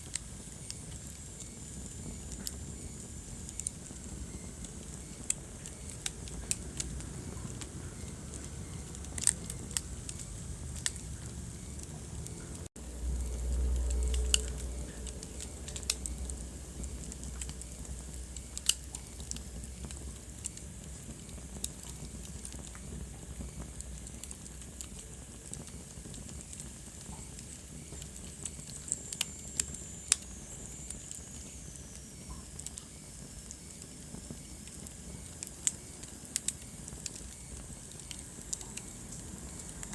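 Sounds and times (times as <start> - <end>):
low rumble and hiss of fire: 0.0 - 39.9
wood fire crackling and popping: 0.0 - 39.9.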